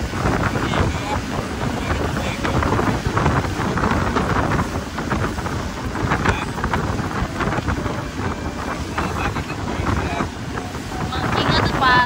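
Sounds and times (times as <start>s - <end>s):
heavy low rumble: 0.0s - 12.0s
water rushing from motorboat: 0.0s - 12.0s
wind buffeting microphone: 0.0s - 12.0s.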